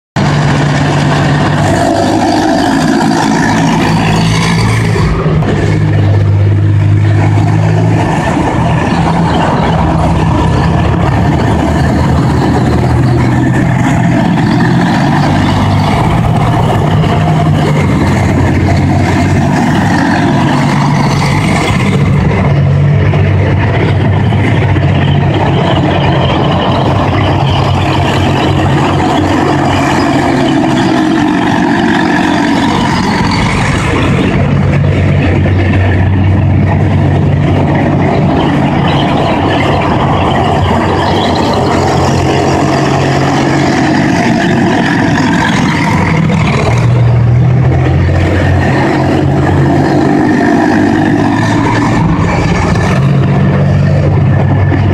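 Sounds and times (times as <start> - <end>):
tracked vehicle engines running: 0.0 - 54.9.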